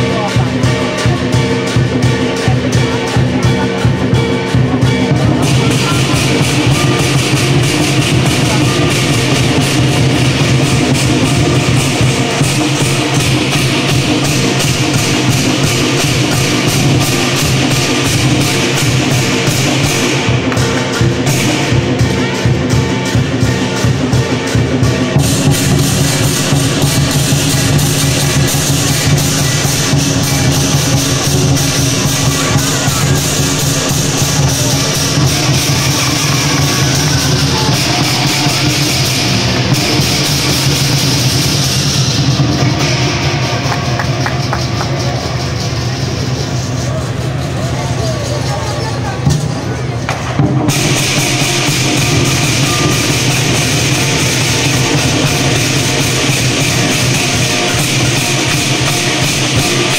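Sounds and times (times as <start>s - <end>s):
big drum beating: 0.0s - 59.9s
cymbals clashing: 0.0s - 59.9s
gongs: 0.0s - 59.9s
percussion band playing: 0.0s - 59.9s.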